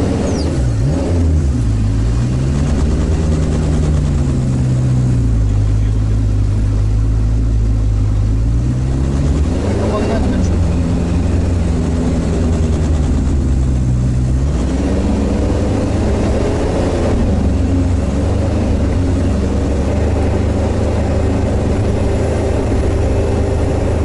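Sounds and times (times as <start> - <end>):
vehicle engine from inside cab: 0.0 - 24.0.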